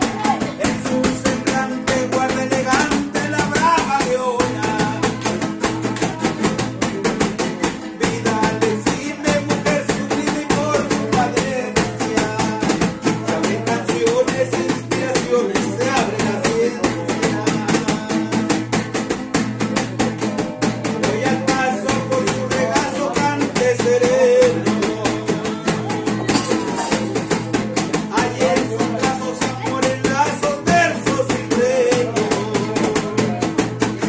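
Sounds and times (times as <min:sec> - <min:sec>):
box drum slapped by hand: 0:00.0 - 0:34.0
man singing: 0:00.0 - 0:34.0
small guitar strummed: 0:00.0 - 0:34.0.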